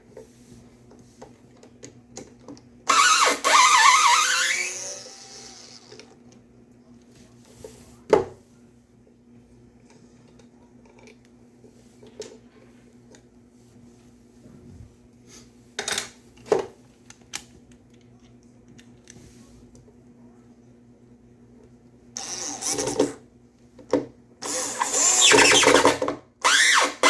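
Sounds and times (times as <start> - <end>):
faint steady low hum: 0.0 - 24.9.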